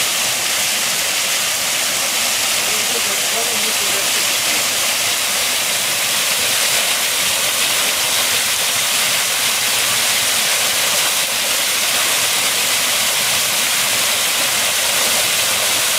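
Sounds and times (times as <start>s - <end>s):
waterfall rushing and splashing: 0.0s - 15.9s.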